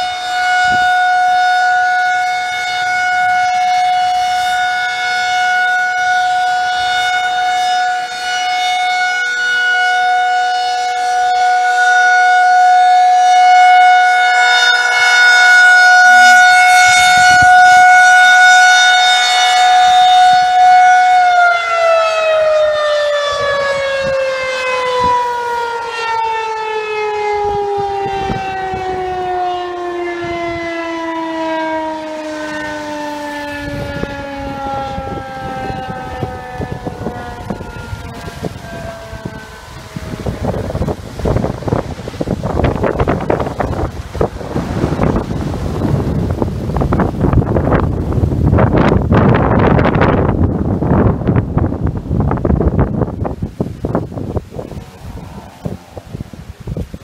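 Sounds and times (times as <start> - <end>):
warning siren winding down: 0.0 - 57.0.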